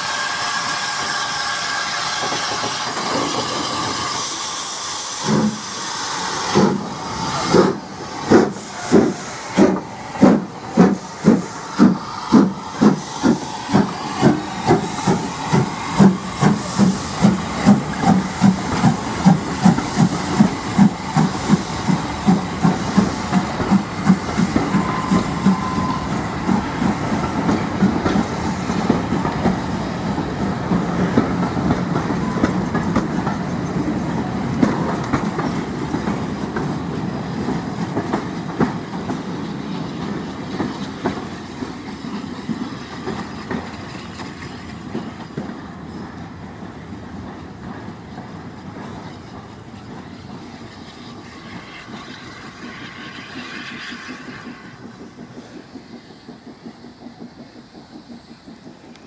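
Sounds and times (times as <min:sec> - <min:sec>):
carriages rumbling on rails: 0:00.0 - 0:59.0
steam locomotive exhaust chuffs: 0:00.0 - 0:59.0.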